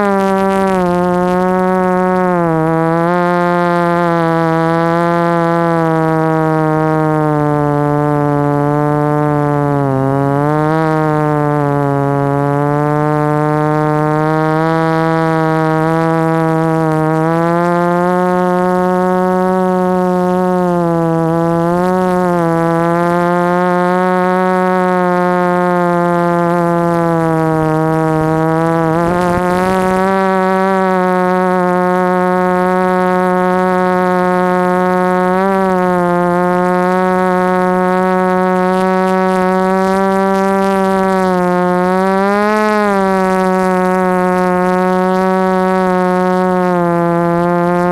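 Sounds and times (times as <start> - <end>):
model aircraft motors whining: 0.0 - 47.9.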